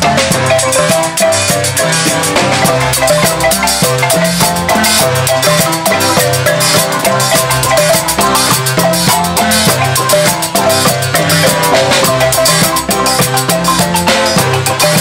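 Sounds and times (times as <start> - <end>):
drum kit and cymbals: 0.0 - 15.0
low bass marimba notes: 0.0 - 15.0
marimba band playing: 0.0 - 15.0.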